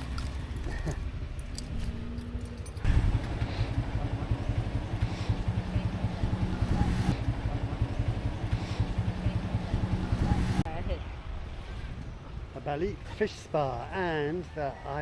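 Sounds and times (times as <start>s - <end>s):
vehicle engine rumbling: 0.0s - 13.8s.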